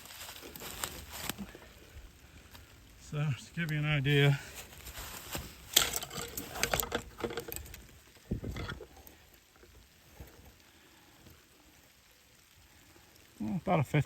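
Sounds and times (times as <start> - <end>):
rustling and crackling clicks: 0.0 - 14.0.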